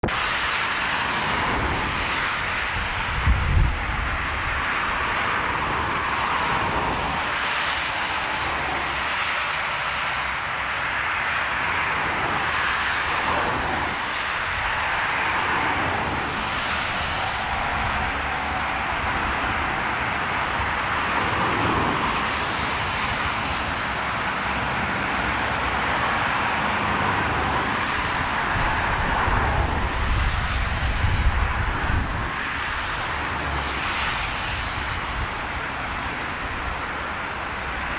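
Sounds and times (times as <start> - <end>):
wind rumbling on microphone: 0.0 - 10.9, 11.6 - 37.9
airliner engines running: 0.0 - 37.9.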